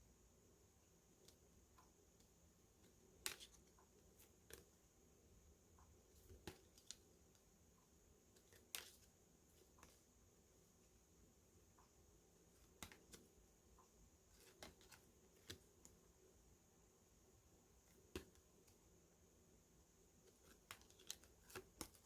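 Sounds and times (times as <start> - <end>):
faint room hiss: 0.0 - 22.0.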